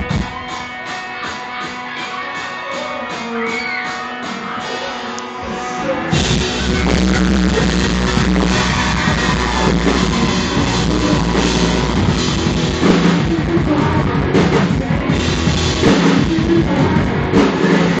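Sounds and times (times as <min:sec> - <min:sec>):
drum kit: 0:00.0 - 0:18.0
live rock band playing: 0:00.0 - 0:18.0.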